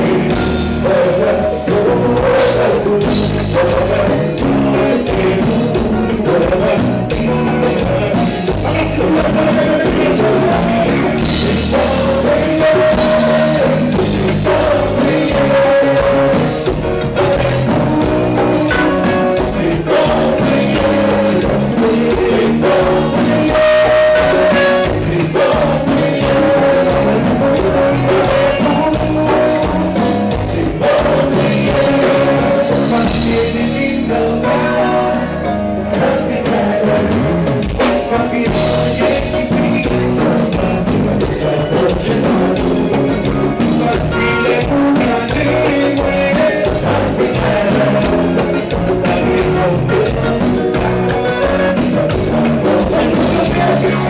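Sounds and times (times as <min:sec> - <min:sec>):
live band playing: 0:00.0 - 0:54.0
male lead vocal: 0:00.0 - 0:54.0.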